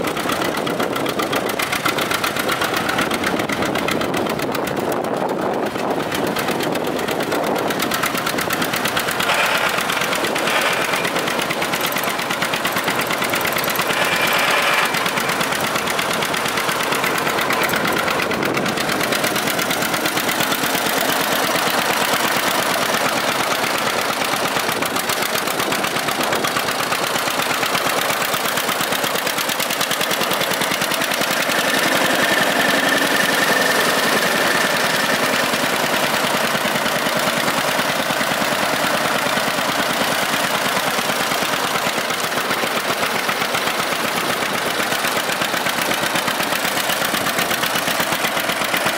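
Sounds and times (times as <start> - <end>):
tractor engine idling: 0.0 - 48.9.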